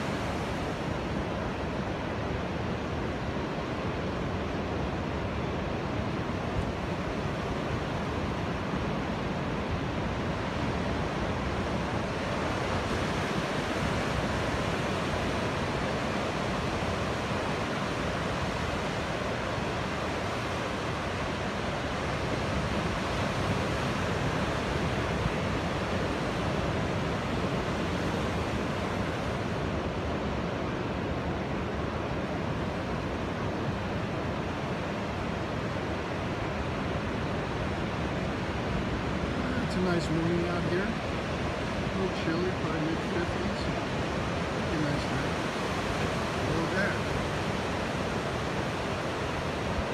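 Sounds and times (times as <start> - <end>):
waves breaking on beach: 0.0 - 49.9.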